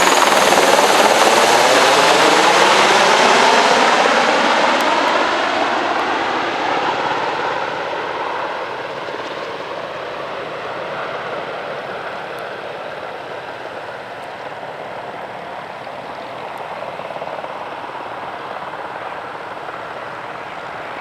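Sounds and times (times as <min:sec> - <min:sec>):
aircraft rotors rushing noise: 0:00.0 - 0:21.0.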